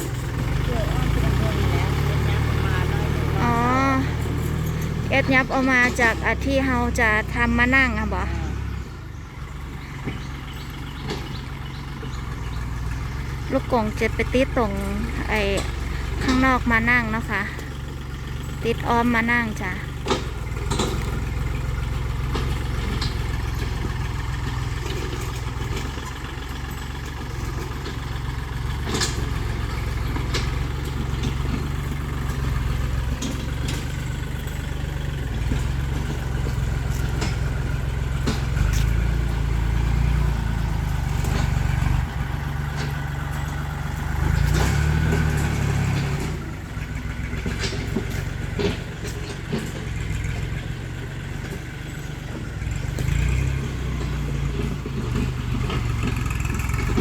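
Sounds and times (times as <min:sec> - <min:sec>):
tractor engine droning: 0:00.0 - 0:57.0
clanks and knocks: 0:09.6 - 0:57.0.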